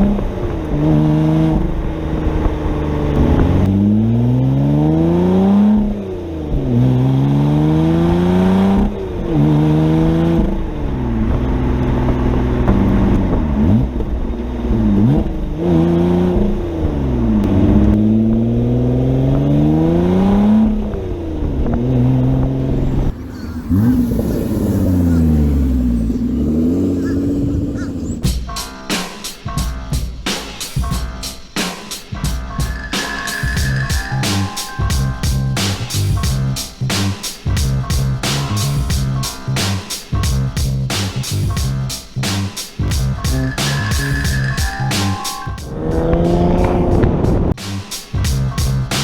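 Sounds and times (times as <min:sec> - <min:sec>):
car engine accelerating hard: 0:00.0 - 0:28.3, 0:34.3 - 0:47.6.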